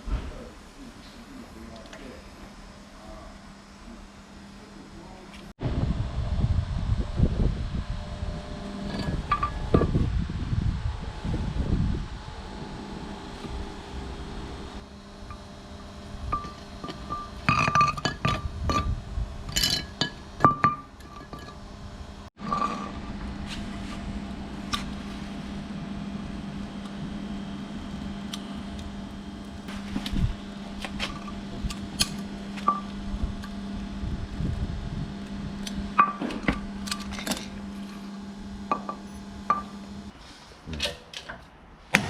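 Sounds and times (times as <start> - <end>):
steady machine hum: 0.0 - 40.2.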